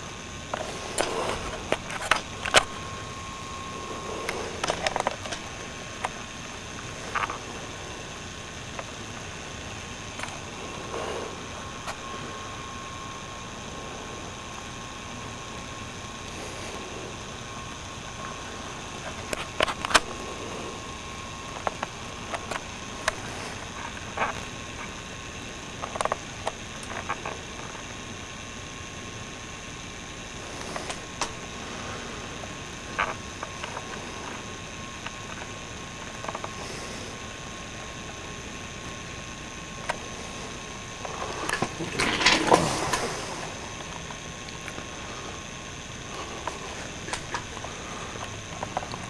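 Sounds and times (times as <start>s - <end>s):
faint steady tone: 0.0s - 49.0s
steady hiss: 0.0s - 49.0s.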